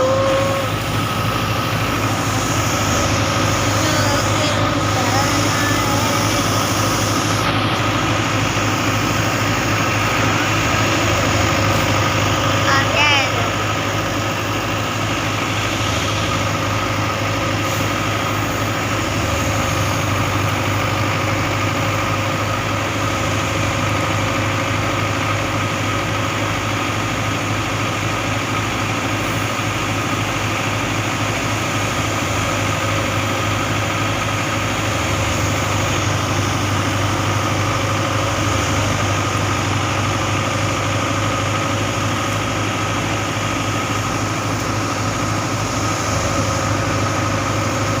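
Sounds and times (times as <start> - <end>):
farm machinery engine running: 0.0 - 48.0.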